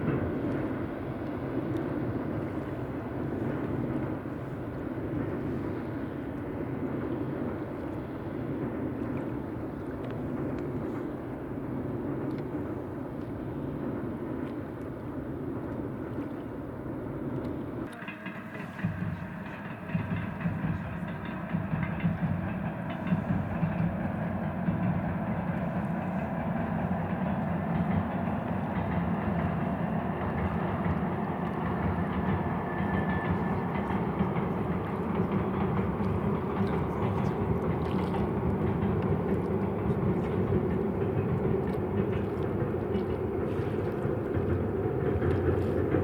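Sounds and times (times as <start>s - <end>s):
freight train rumble: 0.0s - 46.0s.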